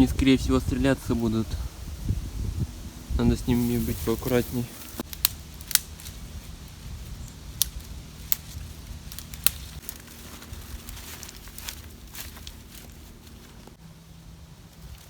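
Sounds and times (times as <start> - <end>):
campfire crackling: 0.9 - 15.0
fire popping: 1.1 - 13.8.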